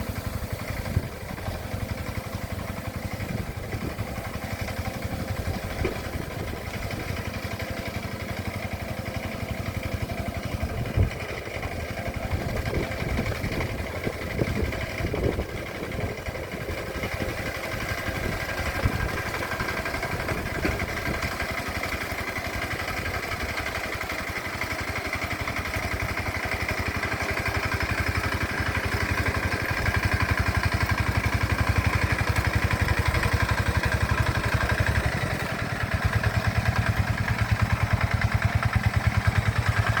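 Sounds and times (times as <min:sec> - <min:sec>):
hand tractor engine chugging: 0:00.0 - 0:40.0.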